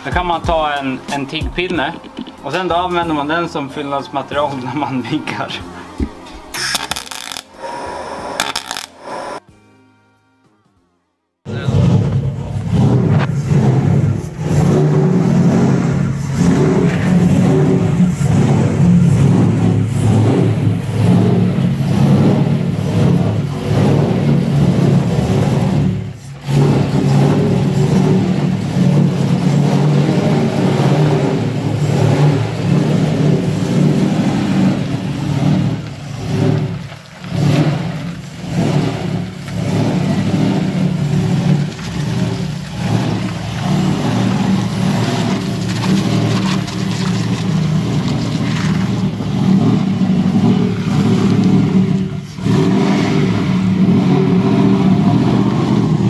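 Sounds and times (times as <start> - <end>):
loud engine revving: 6.7 - 9.4, 11.5 - 56.0.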